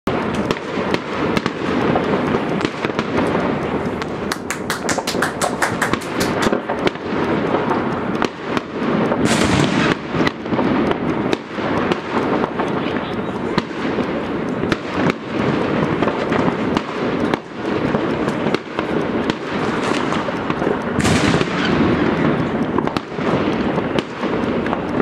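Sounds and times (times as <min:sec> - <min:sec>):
firecrackers bangs and pops: 0:00.1 - 0:25.0.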